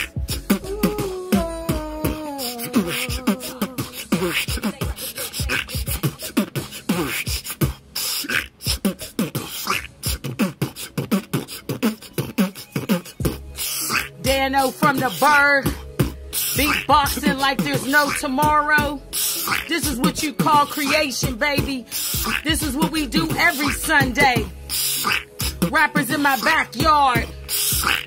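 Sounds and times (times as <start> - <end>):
person beatboxing: 0.0 - 28.0.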